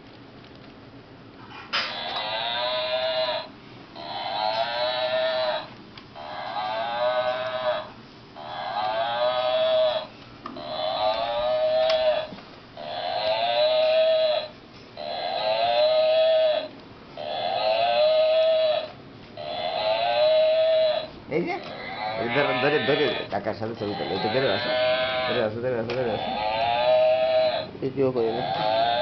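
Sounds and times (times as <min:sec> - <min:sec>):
electronic toy cow mooing: 0:01.8 - 0:29.0.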